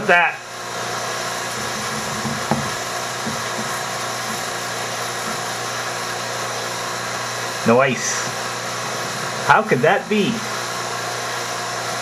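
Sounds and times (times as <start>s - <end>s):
vacuum pump running: 0.0s - 12.0s.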